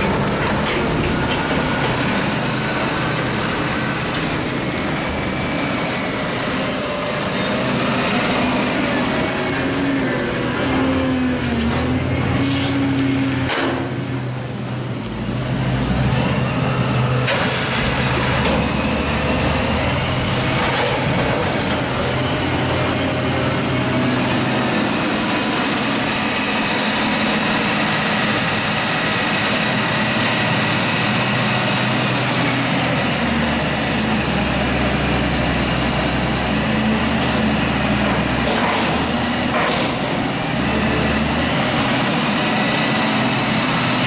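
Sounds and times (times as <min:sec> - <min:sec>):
heavy farm machinery running: 0:00.0 - 0:44.0.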